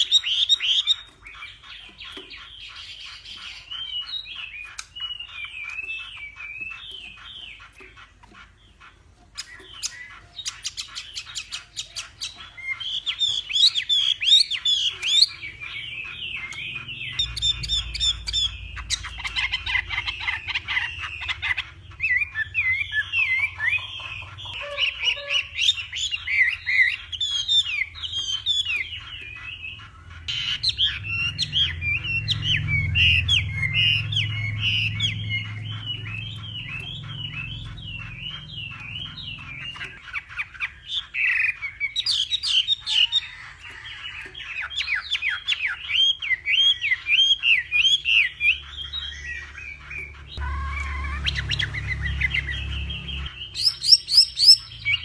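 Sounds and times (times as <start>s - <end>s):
bird singing loud whistled notes: 9.4s - 55.0s.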